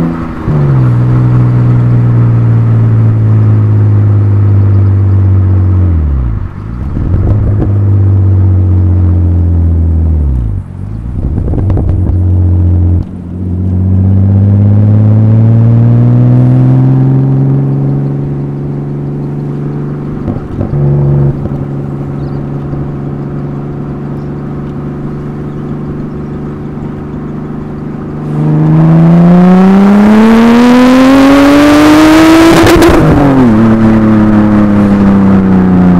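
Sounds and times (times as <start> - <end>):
car engine exhaust revving: 0.0 - 35.9.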